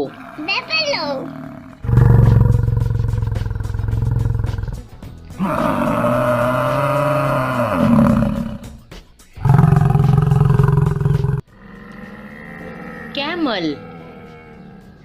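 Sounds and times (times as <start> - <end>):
buffalo bellowing: 0.0 - 15.0.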